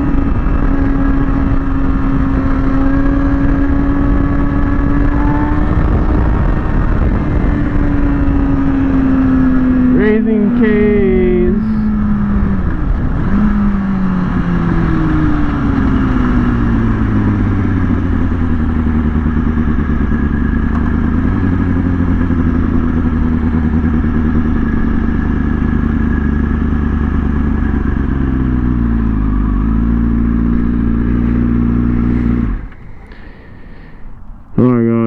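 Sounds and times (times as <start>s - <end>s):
motorcycle engine running: 0.0s - 34.6s.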